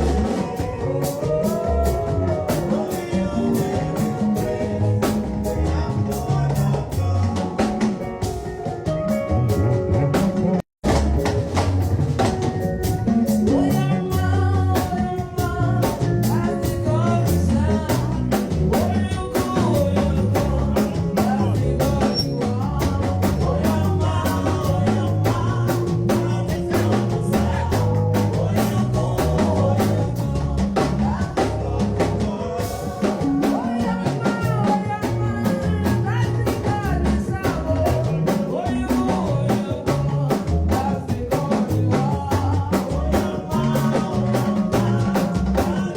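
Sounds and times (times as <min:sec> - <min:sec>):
drum kit beat: 0:00.0 - 0:45.9
live band playing: 0:00.0 - 0:45.9.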